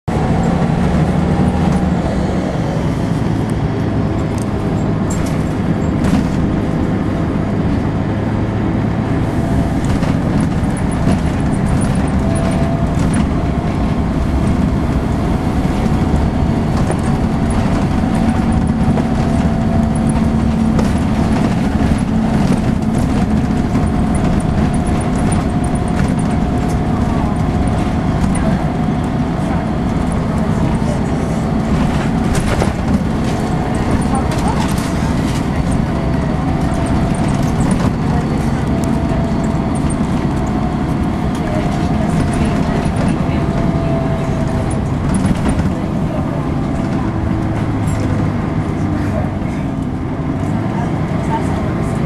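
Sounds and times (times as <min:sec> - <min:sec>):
bus engine hum: 0:00.0 - 0:52.0
interior clicks and rattles: 0:00.1 - 0:52.0.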